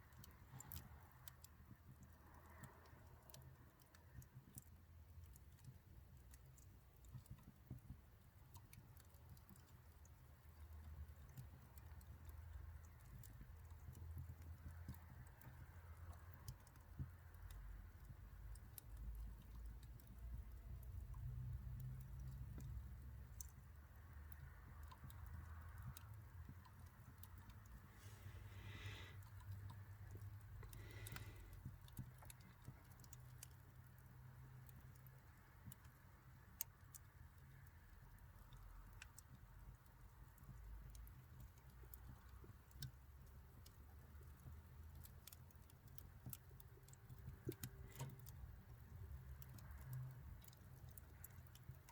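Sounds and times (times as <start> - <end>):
low steady rumble: 0.0 - 51.9
wood bonfire crackling: 0.1 - 51.9.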